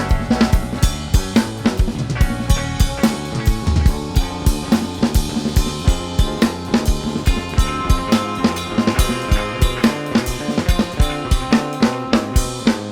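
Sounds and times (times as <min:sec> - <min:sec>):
bass and guitar: 0:00.0 - 0:12.9
drum kit fast beat: 0:00.0 - 0:12.9.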